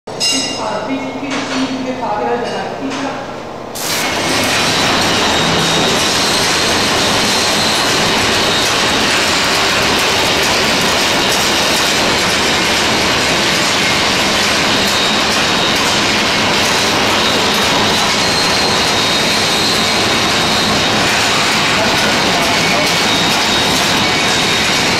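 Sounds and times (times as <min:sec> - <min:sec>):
packaging machine running: 0:03.8 - 0:24.9.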